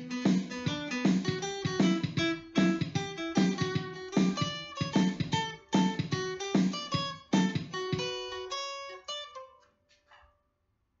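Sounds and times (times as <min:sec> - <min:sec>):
guitar picked notes: 0:00.0 - 0:09.7
acoustic guitar strumming: 0:00.0 - 0:10.3.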